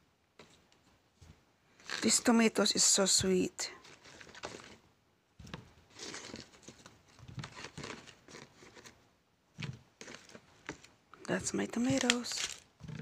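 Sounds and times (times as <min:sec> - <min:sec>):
tomatoes rustling and knocking: 0:00.4 - 0:04.8, 0:05.4 - 0:13.0.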